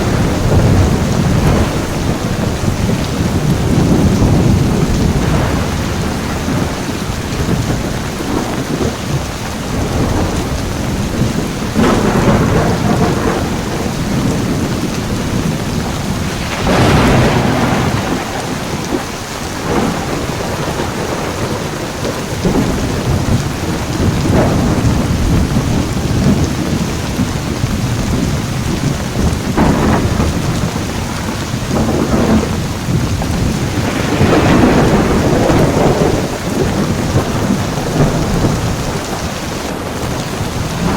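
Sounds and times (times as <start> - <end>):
heavy rain falling: 0.0 - 40.9
thunder rumbling: 0.0 - 40.9.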